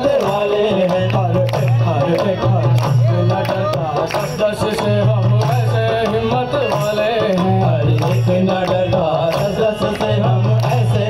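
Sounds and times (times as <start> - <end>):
hand clapping: 0.0 - 11.0
hand drum rhythm: 0.0 - 11.0
harmonium melody: 0.0 - 11.0.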